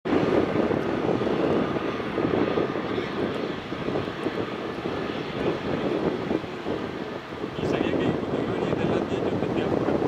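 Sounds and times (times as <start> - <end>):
jet engines running: 0.1 - 10.0.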